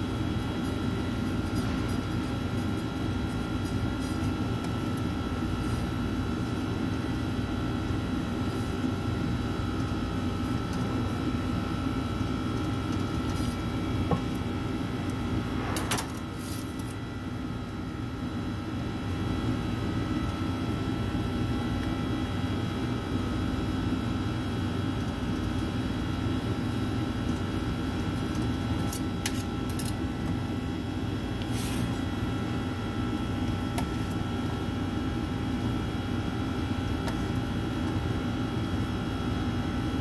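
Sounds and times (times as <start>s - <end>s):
kitchen machinery humming: 0.0s - 40.0s.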